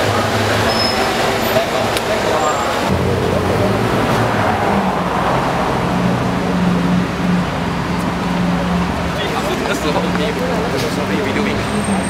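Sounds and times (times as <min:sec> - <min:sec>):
sports car engine running: 0:00.0 - 0:12.0.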